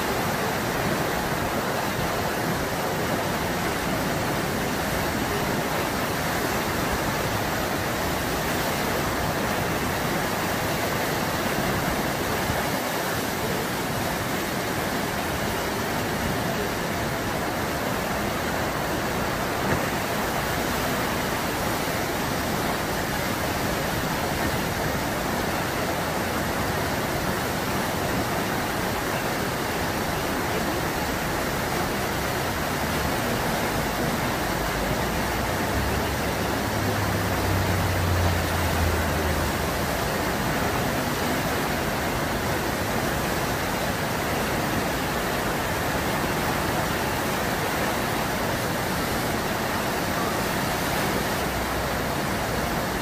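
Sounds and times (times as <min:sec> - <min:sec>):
whitewater roaring: 0:00.0 - 0:53.0.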